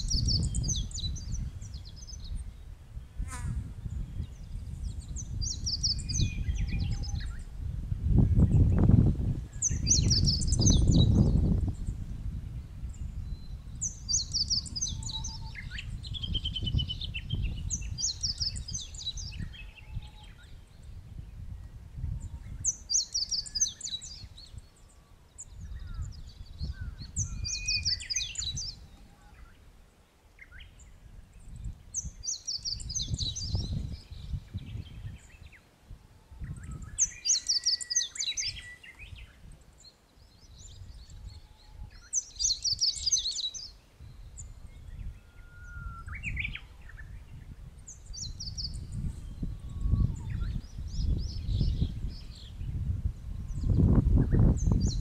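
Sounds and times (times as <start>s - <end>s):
songbird singing: 0.0s - 55.0s
wind rumbling on microphone: 0.0s - 55.0s.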